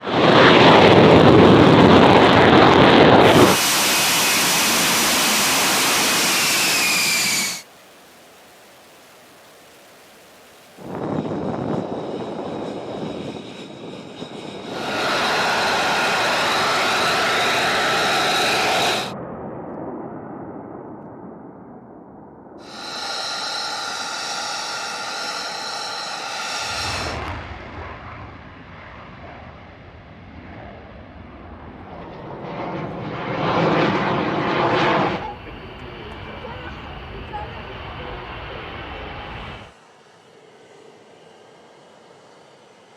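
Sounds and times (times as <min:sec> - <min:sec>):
fighter jet engine roar: 0:00.0 - 0:20.1, 0:22.6 - 0:42.9
jet hiss with high whine: 0:00.1 - 0:19.2, 0:22.6 - 0:28.8, 0:31.7 - 0:42.9.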